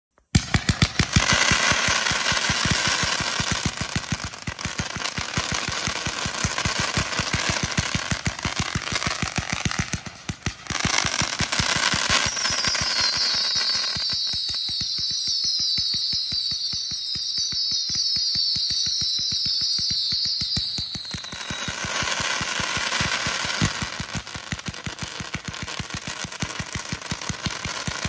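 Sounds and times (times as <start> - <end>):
firework hiss and crackle: 0.3 - 28.0
fireworks firing rapidly: 0.3 - 28.0.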